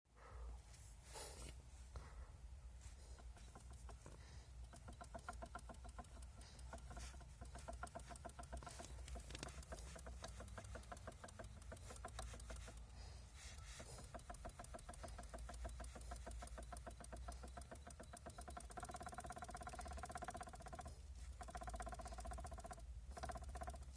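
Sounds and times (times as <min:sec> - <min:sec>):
power steering rattling ticks: 0:03.2 - 0:23.9.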